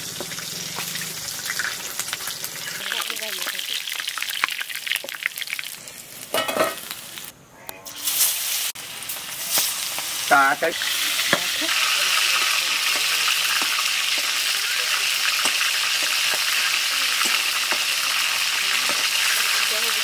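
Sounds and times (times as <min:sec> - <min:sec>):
food deep-frying in oil: 0:00.0 - 0:07.3, 0:07.9 - 0:20.0.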